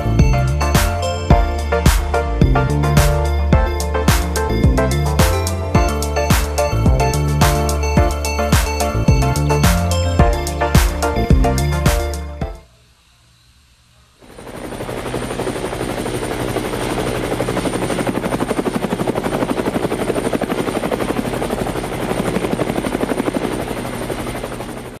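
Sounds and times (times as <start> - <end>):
drone propeller buzz: 0.0 - 13.2, 14.1 - 25.0.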